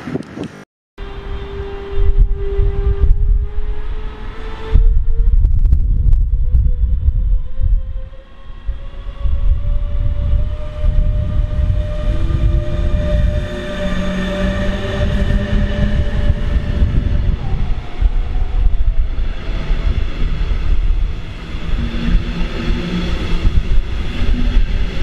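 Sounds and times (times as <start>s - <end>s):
wheels rumbling on rails: 0.0s - 25.0s
electric locomotive whine: 1.0s - 25.0s.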